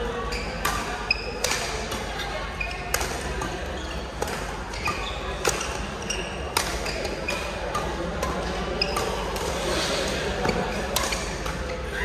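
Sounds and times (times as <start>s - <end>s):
background chatter: 0.0s - 12.0s
shoes squeaking on court floor: 0.3s - 1.4s, 2.2s - 12.0s
racket hitting shuttlecock: 0.4s - 12.0s.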